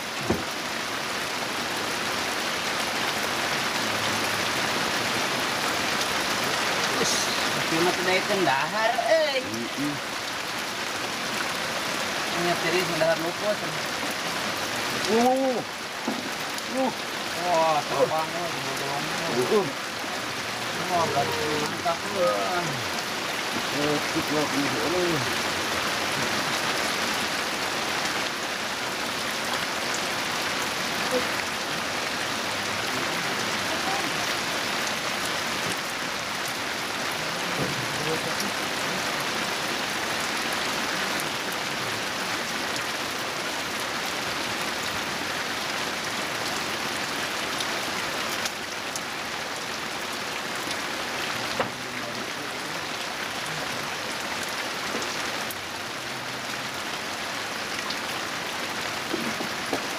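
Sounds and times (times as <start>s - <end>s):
heavy rain on water: 0.0s - 59.9s.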